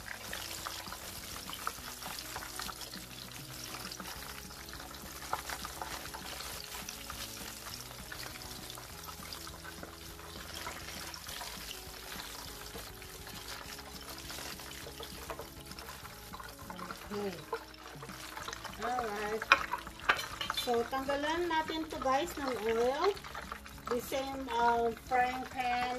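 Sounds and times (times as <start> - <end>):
meat deep-frying in oil: 0.0 - 25.9.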